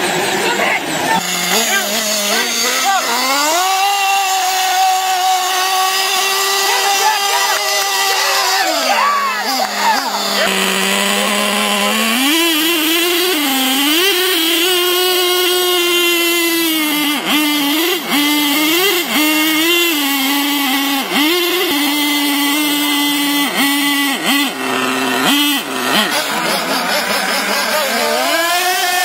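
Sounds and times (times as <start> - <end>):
rc truck engines revving: 0.0 - 29.0.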